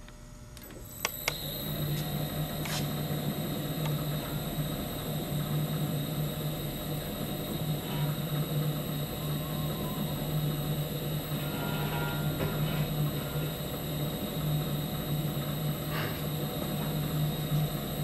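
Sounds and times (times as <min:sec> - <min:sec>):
machine table drive humming: 0:00.0 - 0:18.0.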